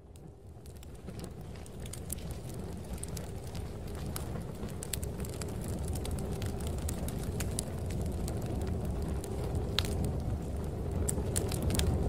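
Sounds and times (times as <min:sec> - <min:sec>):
fire snapping and popping: 0:00.0 - 0:12.0
low fire rumble: 0:00.0 - 0:12.0.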